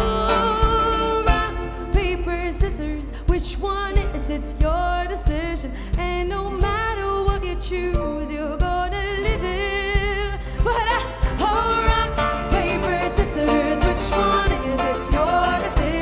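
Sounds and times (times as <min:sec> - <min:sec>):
live band music: 0:00.0 - 0:16.0
woman singing: 0:00.0 - 0:16.0.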